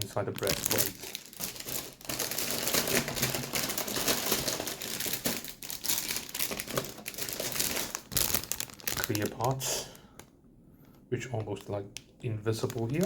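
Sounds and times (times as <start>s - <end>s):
plastic bags crinkling: 0.0s - 10.3s, 11.2s - 13.0s.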